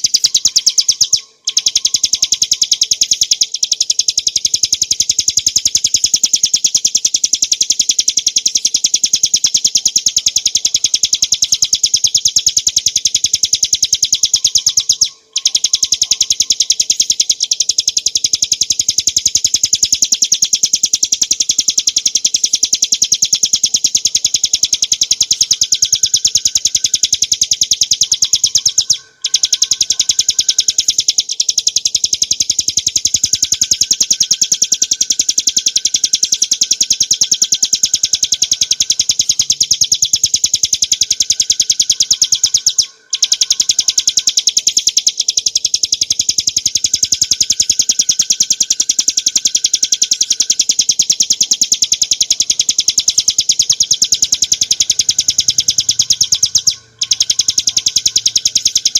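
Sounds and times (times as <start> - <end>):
bird singing rapid chattering notes: 0.0 - 58.9.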